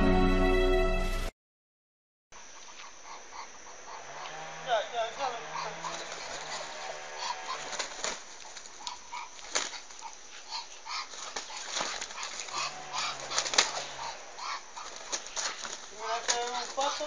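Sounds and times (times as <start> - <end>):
short animal calls: 2.6 - 17.0.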